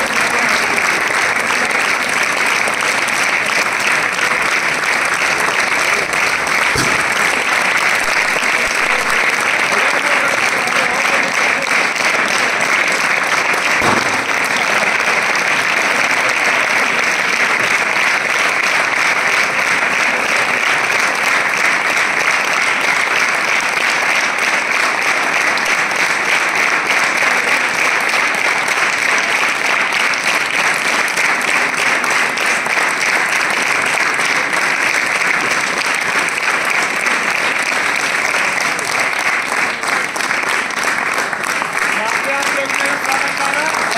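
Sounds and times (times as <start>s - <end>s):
audience applauding: 0.0s - 43.9s.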